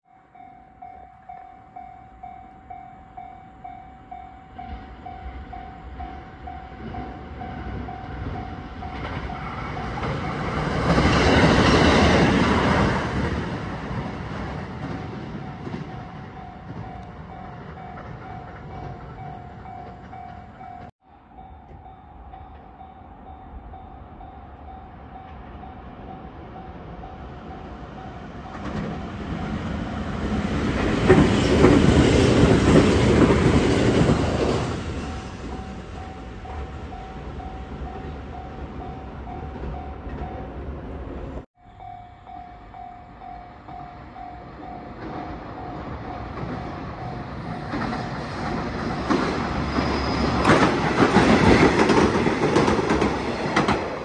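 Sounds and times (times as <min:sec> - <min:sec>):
level-crossing warning bell: 0:00.0 - 0:40.9, 0:41.5 - 0:53.3
train wheel and track noise: 0:00.7 - 0:54.0
train rumble and clickety-clack: 0:00.8 - 0:41.5, 0:42.8 - 0:54.0.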